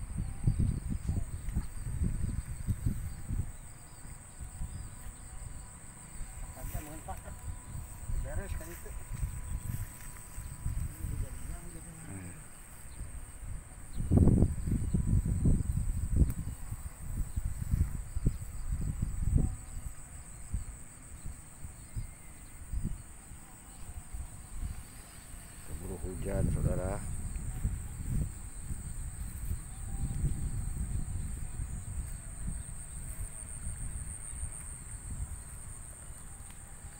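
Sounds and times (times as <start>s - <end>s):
insects droning high-pitched: 0.0s - 36.9s.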